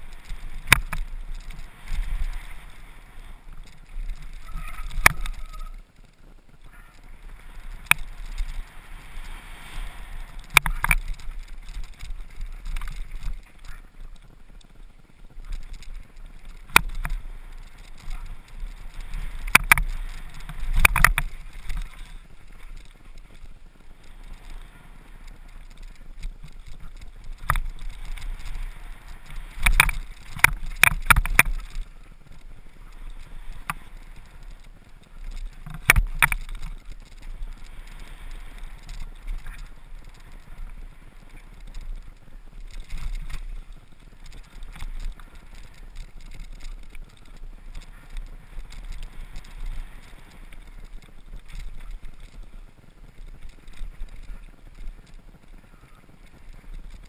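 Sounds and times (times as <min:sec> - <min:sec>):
tyre and wind rush: 0:00.0 - 0:57.0.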